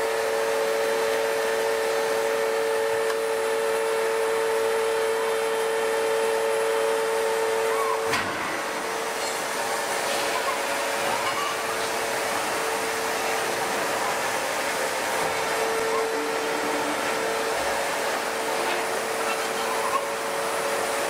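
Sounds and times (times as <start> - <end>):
hydraulic press machinery drone: 0.0 - 21.0
constant hum tone: 0.1 - 21.0.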